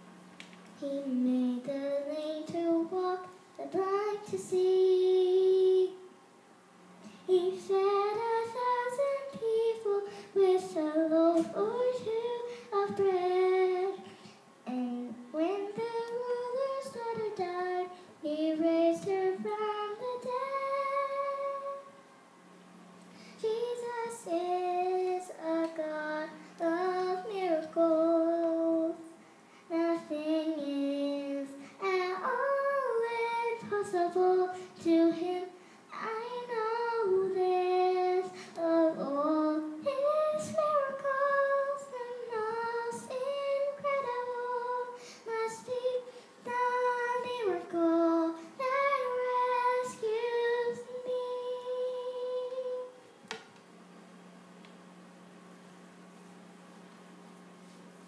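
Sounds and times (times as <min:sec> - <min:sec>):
girl singing: 0:00.8 - 0:06.2, 0:07.0 - 0:22.0, 0:23.2 - 0:53.0.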